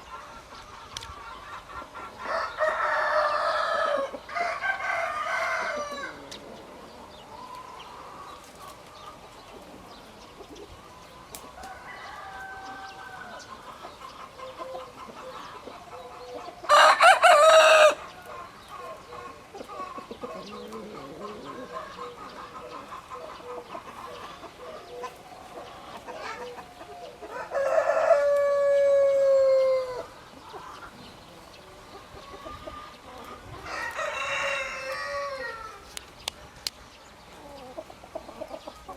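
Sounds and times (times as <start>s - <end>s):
chicken calls and clucks: 0.0s - 38.9s
roosters crowing: 1.2s - 36.0s.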